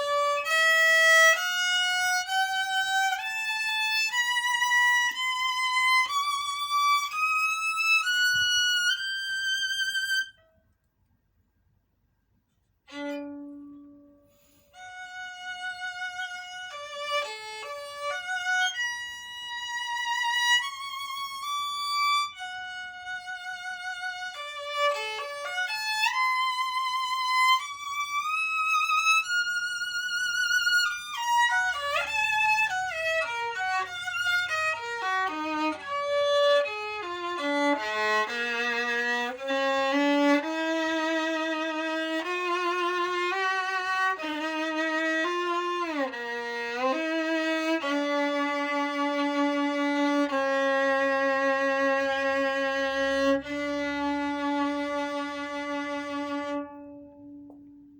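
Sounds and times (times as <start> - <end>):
solo violin with vibrato: 0.0 - 10.4, 12.8 - 57.8.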